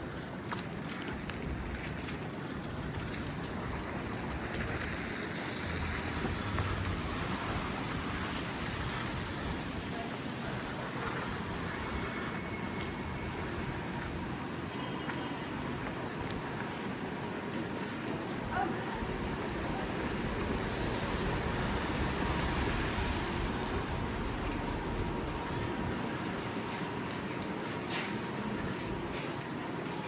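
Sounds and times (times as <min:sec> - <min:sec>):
traffic on slushy road: 0:00.0 - 0:30.0.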